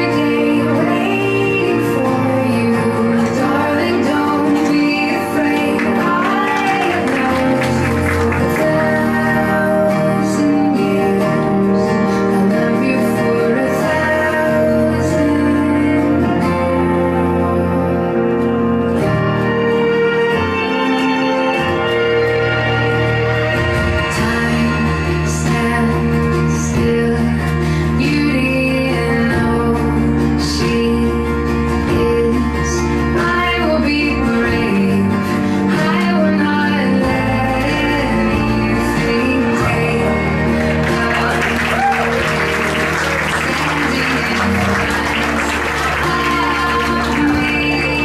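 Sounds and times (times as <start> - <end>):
instrumental music with string tones: 0.0 - 48.0
sung melody: 0.0 - 48.0.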